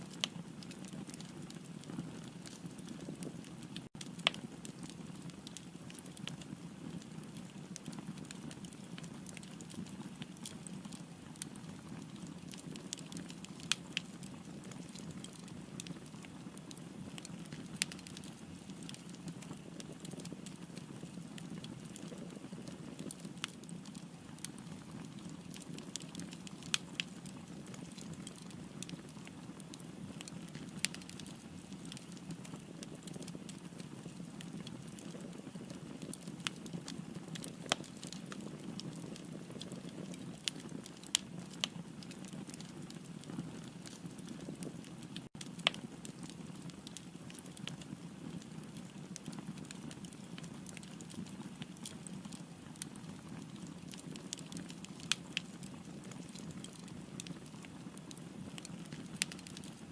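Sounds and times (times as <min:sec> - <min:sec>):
fire crackling and popping: 0:00.0 - 0:59.9
wood fire flames rushing: 0:00.2 - 0:59.8.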